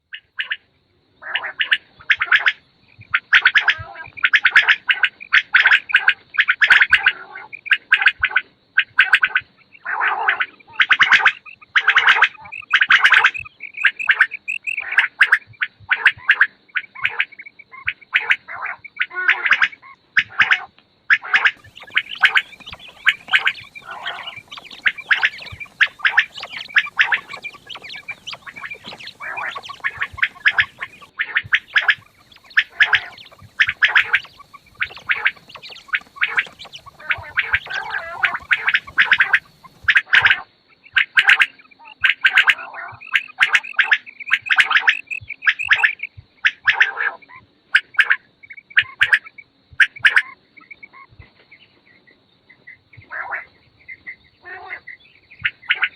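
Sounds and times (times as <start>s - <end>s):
quails calling: 0.0s - 55.9s.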